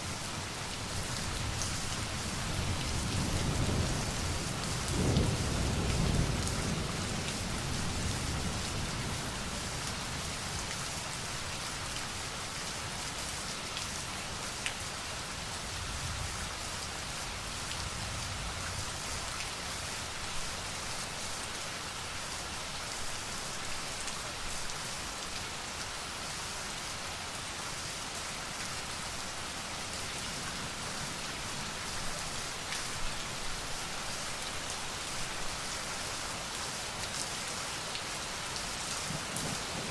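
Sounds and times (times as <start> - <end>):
rain pattering on hard surfaces: 0.2 - 26.1, 28.1 - 39.9.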